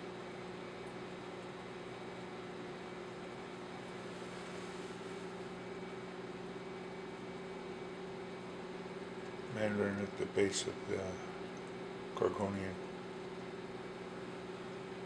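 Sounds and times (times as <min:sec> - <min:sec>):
aquarium water pumps humming: 0:00.0 - 0:15.0.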